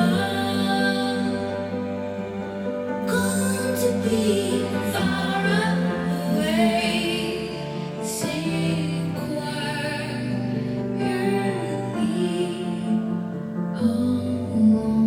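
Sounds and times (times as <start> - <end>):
woman singing slow song: 0.0 - 1.8, 3.0 - 15.0.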